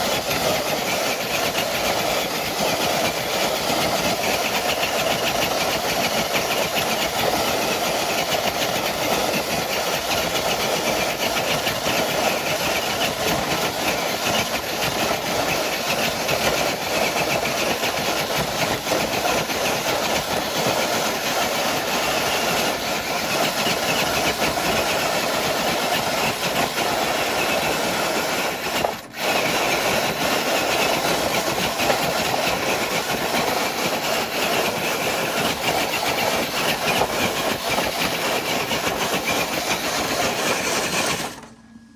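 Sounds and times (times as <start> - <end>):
electric motor whirring: 0.0 - 41.6.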